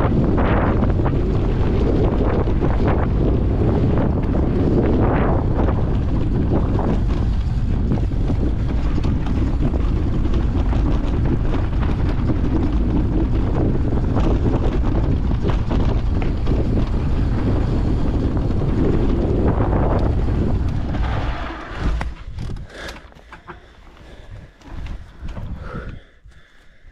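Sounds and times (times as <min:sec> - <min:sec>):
wind buffeting microphone: 0:00.0 - 0:22.8, 0:23.6 - 0:26.9
bike knocking and rattling: 0:00.0 - 0:26.7
tyres rumbling on dirt trail: 0:00.0 - 0:26.9.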